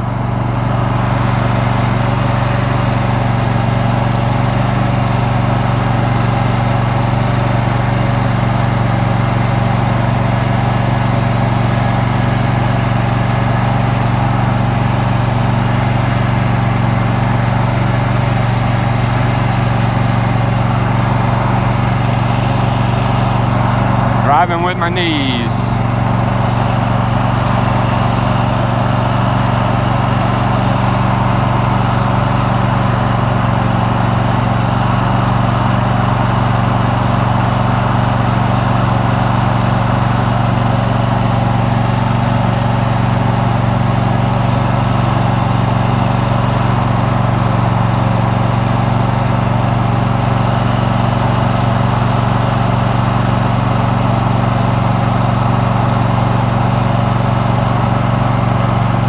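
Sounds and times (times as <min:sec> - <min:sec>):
riding lawn mower engine: 0:00.0 - 0:59.0.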